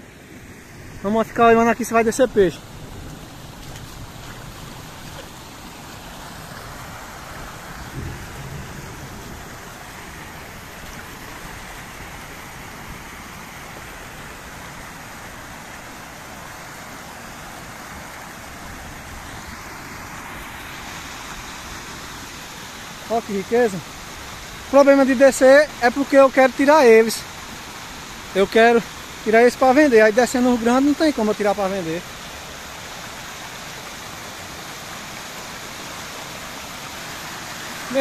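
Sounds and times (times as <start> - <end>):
water rushing down channel: 0.0 - 38.0.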